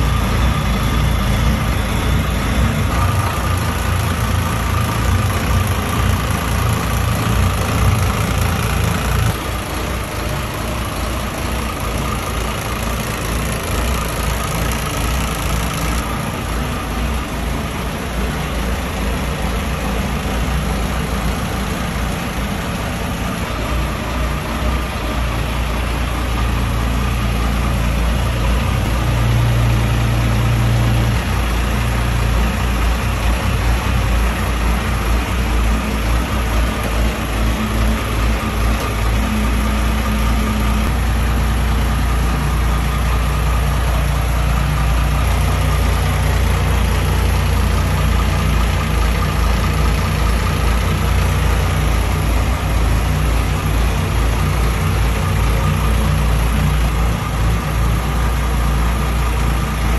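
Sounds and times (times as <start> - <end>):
marine diesel engine running: 0.0 - 59.9.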